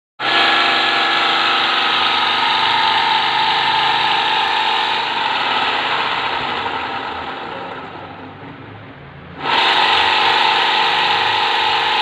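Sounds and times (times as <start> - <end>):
motor hum: 0.2 - 8.5, 9.4 - 12.0
fan motor rough rasping: 0.2 - 8.6, 9.4 - 12.0.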